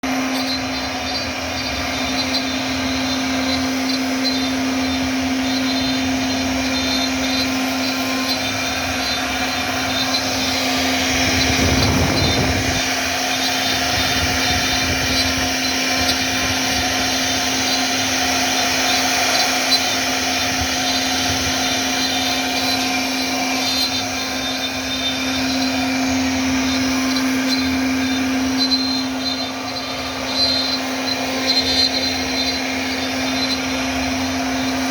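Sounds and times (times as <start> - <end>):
cnc router spindle whine: 0.0 - 34.9
router bit cutting: 0.0 - 34.9.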